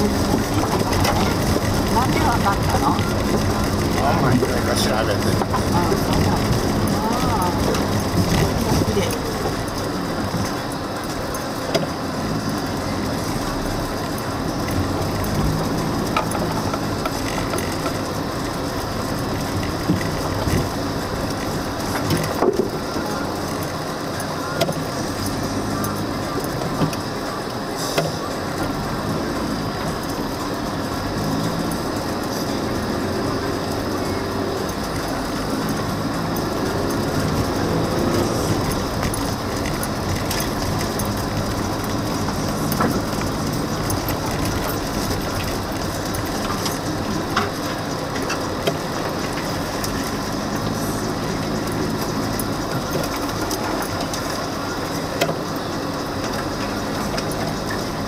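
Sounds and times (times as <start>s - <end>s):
car engine and tyres running: 0.0s - 58.0s.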